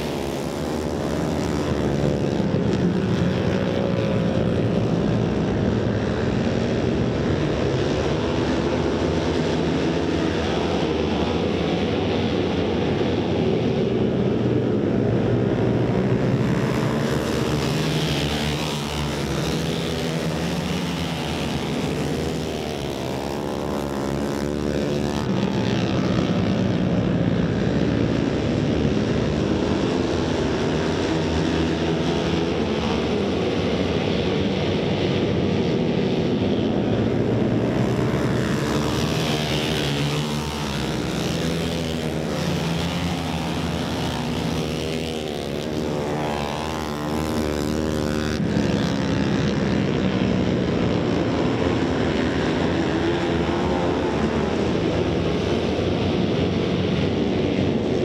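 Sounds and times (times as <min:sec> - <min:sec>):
racing motorcycle engines: 0:00.0 - 0:58.0.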